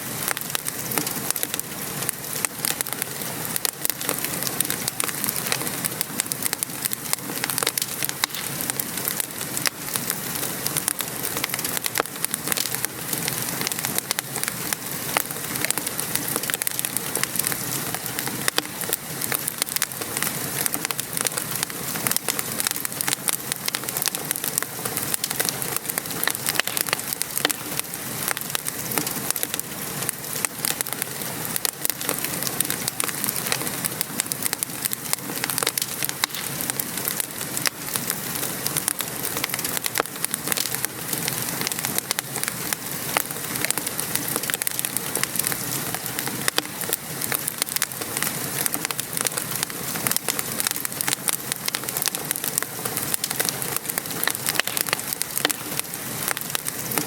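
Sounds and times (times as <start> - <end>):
rain pattering: 0.0 - 57.0
wood fire crackling: 0.0 - 57.0.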